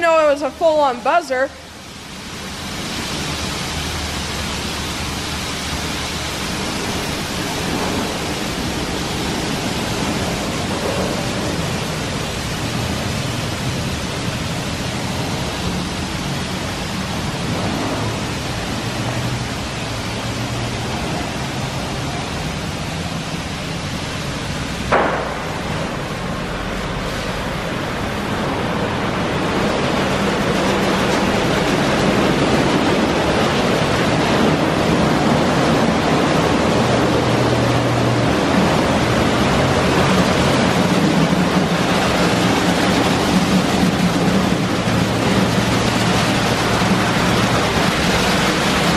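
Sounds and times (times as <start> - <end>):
car wash spraying water: 0.0 - 48.9.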